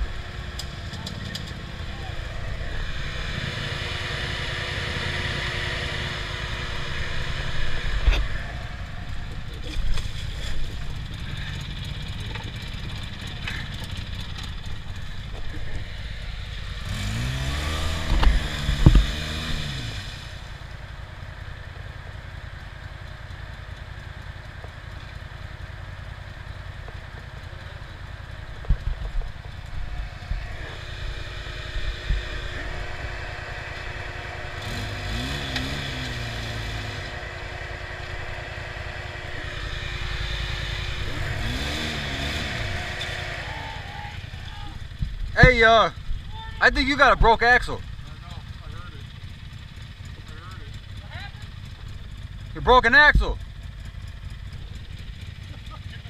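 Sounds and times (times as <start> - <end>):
atv engine revving: 0.0 - 56.0
atv engines running: 0.0 - 56.0.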